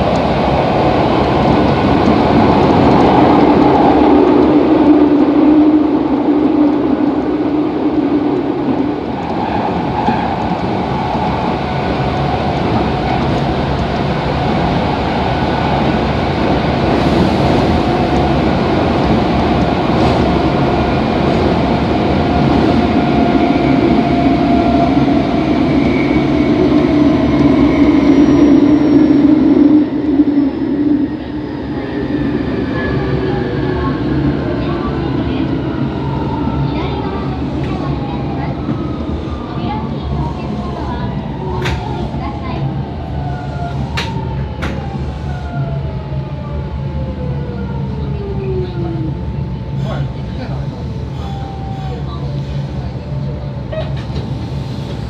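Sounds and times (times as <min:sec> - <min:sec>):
rail running noise: 0:00.0 - 0:55.0.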